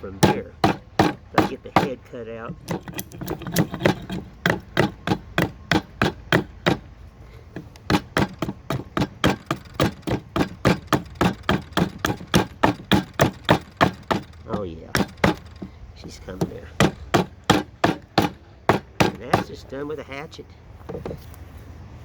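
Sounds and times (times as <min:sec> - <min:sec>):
hatchet chopping wood: 0:00.0 - 0:19.7.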